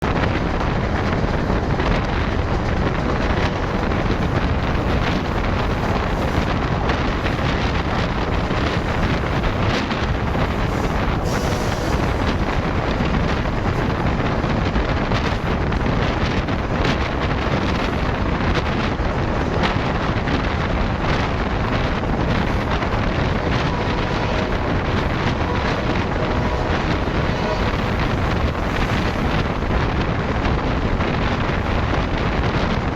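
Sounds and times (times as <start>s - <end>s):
diesel train running: 0.0s - 32.9s
wind buffeting microphone: 0.0s - 32.9s.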